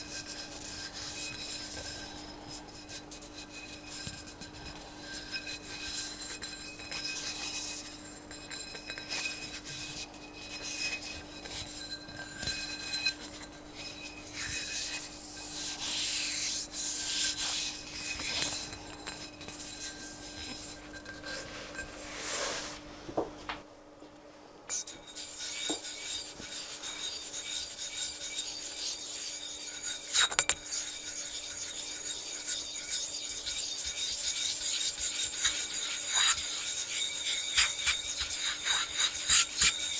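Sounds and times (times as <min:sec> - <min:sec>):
scraping on a whetstone: 0:00.0 - 0:23.0, 0:24.7 - 0:39.9.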